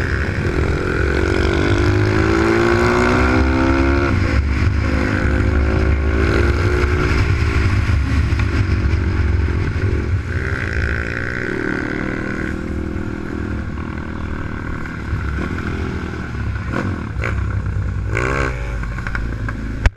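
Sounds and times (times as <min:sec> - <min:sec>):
motorbike engine revving: 0:00.0 - 0:19.8
wind and road noise: 0:00.0 - 0:19.9.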